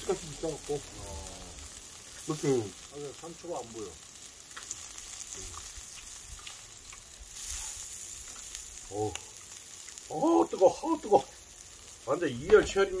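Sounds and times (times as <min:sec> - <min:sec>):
food sizzling on hot stone: 0:00.0 - 0:13.0.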